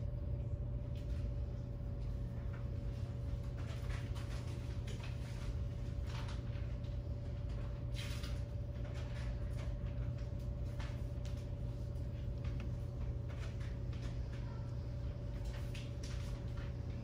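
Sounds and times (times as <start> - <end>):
low electrical hum: 0.0 - 17.0
thin steady whine: 0.0 - 17.0.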